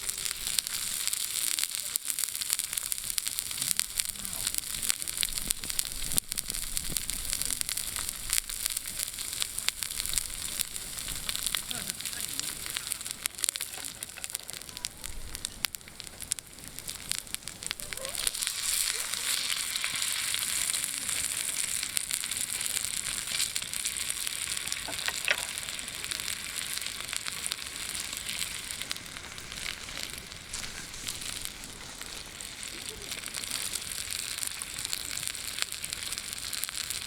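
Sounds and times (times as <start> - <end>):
fire crackling: 0.0 - 37.0
ribs sizzling over campfire: 0.0 - 37.0.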